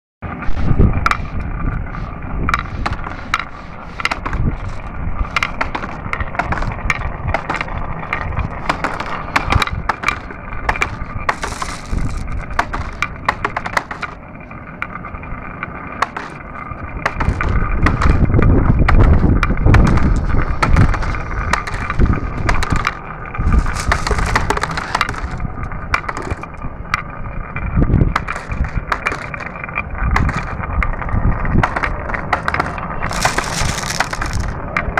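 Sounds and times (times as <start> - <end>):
marbles rolling on track: 0.8 - 34.9
marbles clicking together: 2.5 - 14.2, 14.9 - 27.1, 28.0 - 34.9.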